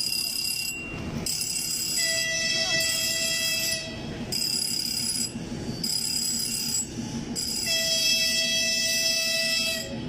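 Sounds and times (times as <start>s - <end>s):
high train signal tone: 0.0s - 10.0s
train running rumble: 0.0s - 10.0s.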